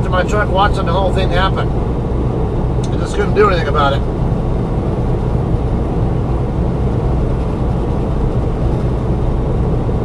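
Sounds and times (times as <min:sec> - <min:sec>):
road noise: 0:00.0 - 0:10.0
truck engine drone: 0:00.0 - 0:10.0.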